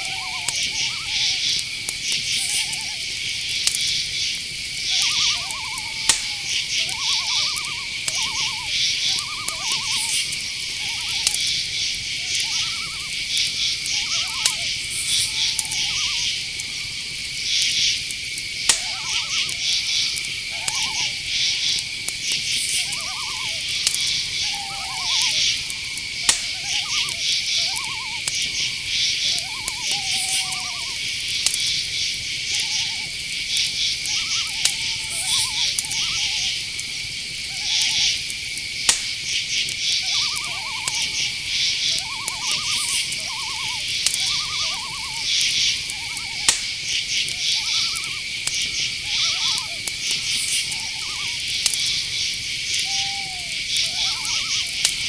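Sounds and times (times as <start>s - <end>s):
rising-and-falling animal calls: 0.0s - 18.1s, 18.7s - 55.0s
crickets trilling: 0.0s - 55.0s
pulsed insect chirping: 0.0s - 55.0s.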